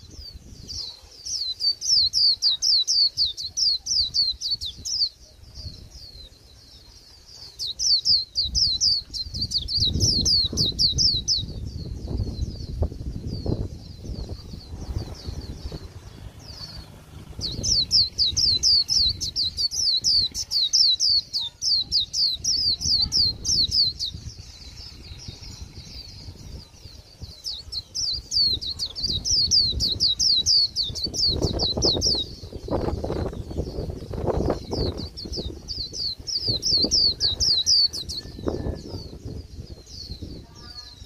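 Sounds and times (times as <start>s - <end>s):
bird singing rapid high notes: 7.5s - 41.0s.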